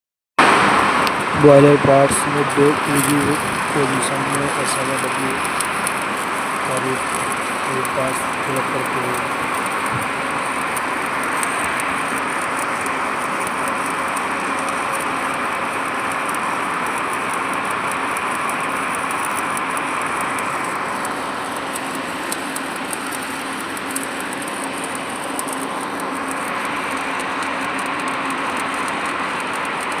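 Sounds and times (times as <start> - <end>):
welding arc crackling and hissing: 0.4 - 30.0.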